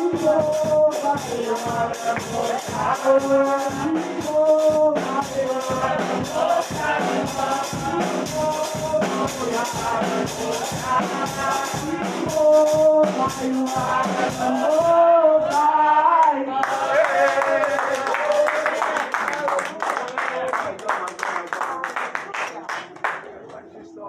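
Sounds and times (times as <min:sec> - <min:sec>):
church worship music: 0:00.0 - 0:24.0.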